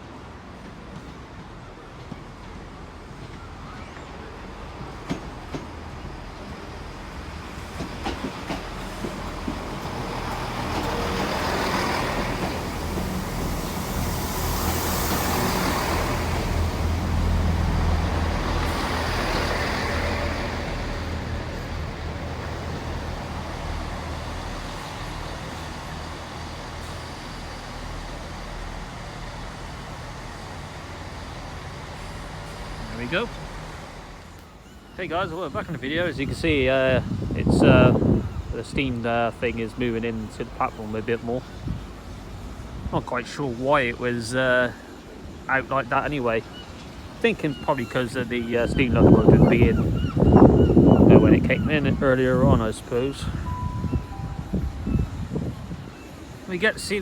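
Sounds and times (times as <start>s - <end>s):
rail and wheel noise: 0.0s - 57.0s
train engine rumble: 0.0s - 57.0s.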